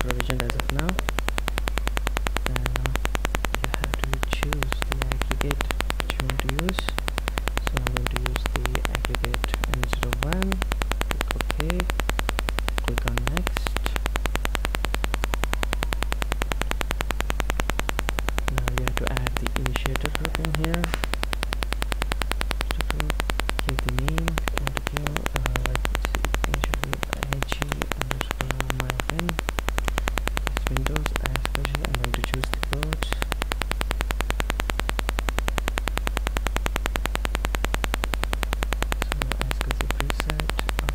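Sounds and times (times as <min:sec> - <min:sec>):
electrical buzz: 0:00.0 - 0:40.9
low hum: 0:00.0 - 0:40.9.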